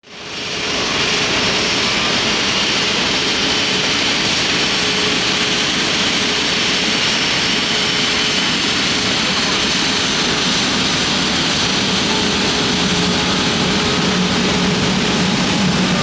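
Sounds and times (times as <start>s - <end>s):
jet engines running: 0.1s - 16.0s.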